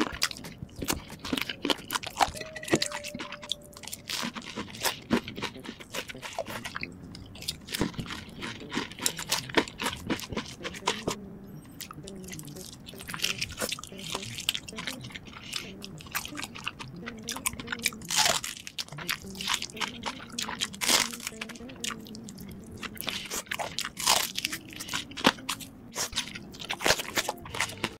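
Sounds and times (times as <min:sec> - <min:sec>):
person chewing crunchy food: 0:00.0 - 0:28.0.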